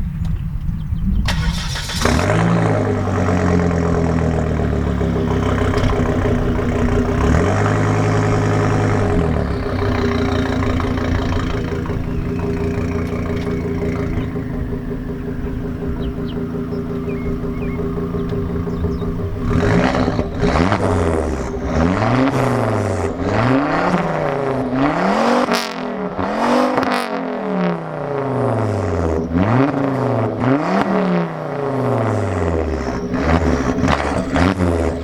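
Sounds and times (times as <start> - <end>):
car engine starting and idling: 0.0 - 35.0.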